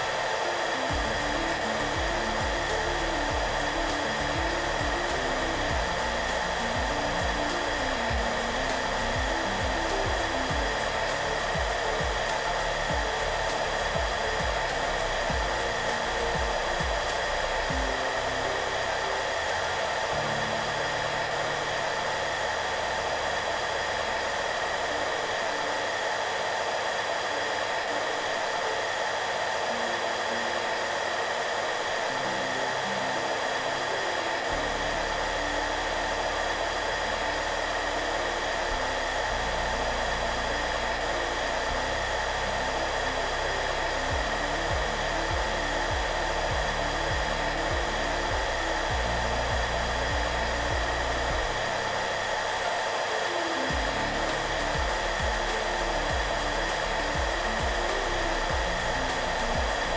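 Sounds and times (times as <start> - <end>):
soft music with bass: 0.0 - 26.1, 28.8 - 59.9
hair dryer running: 0.0 - 59.9.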